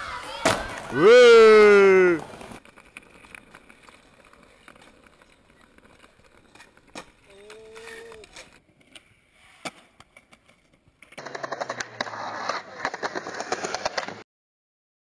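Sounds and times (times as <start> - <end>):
skateboard clacking: 0.0 - 14.2
skateboard wheels rolling on paving: 0.0 - 14.2.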